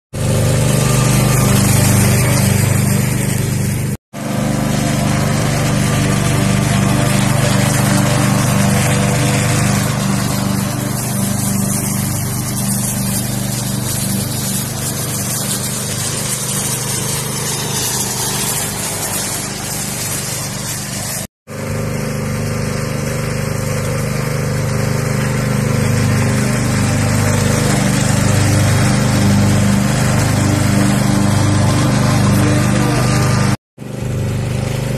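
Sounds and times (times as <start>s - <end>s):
lawn tractor engine running: 0.1s - 34.9s.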